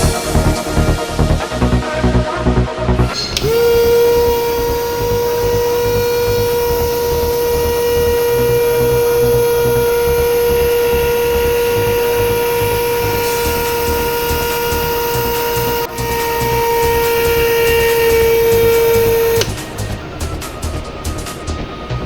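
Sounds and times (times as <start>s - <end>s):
small motor high whine: 3.0s - 22.0s.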